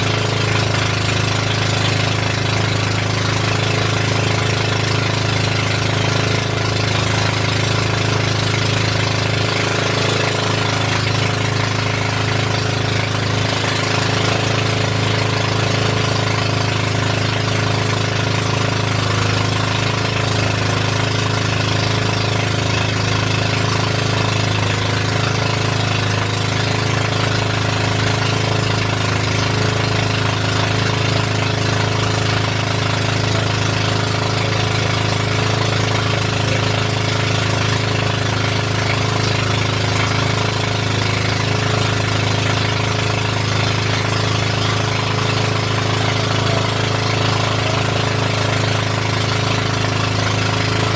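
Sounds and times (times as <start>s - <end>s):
boat engine droning: 0.0s - 50.9s.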